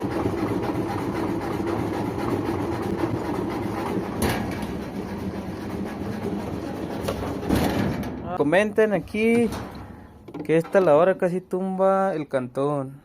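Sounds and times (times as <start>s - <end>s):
washing machine clattering rattle: 0.0s - 8.5s, 9.1s - 11.0s.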